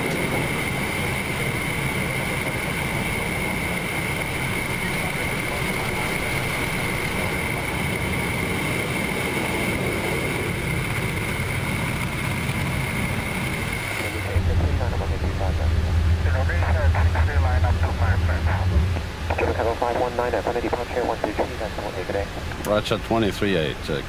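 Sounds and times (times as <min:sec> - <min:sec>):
high-pitched whine: 0:00.0 - 0:22.8
jet engine and airflow noise: 0:00.0 - 0:24.0.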